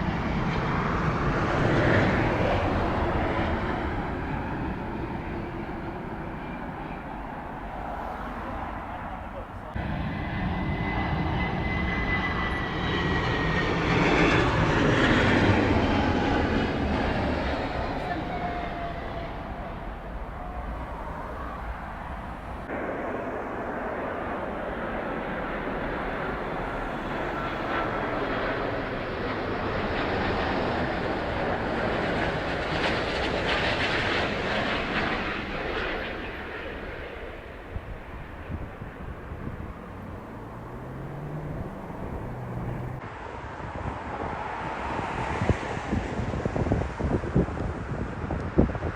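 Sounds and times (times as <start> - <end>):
high jet engine whine: 0.0 - 48.9
jet airliner engine roar: 0.0 - 48.9.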